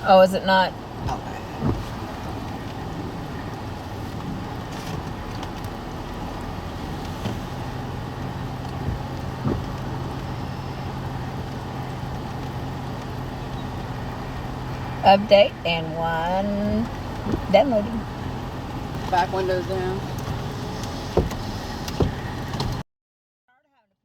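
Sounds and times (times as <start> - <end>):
low steady hum: 0.0 - 22.1
car cabin rumble and hiss: 0.0 - 22.8.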